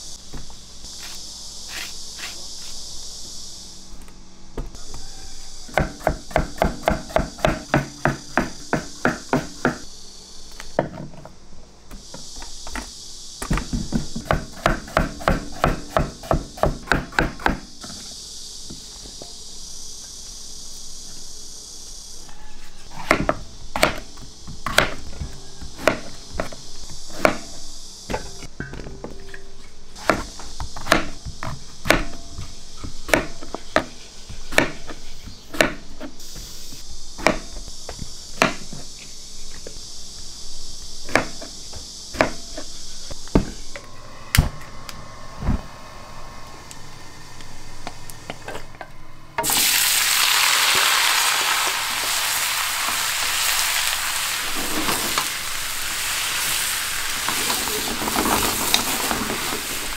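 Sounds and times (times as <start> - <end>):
high insect buzz: 0.0 - 59.9.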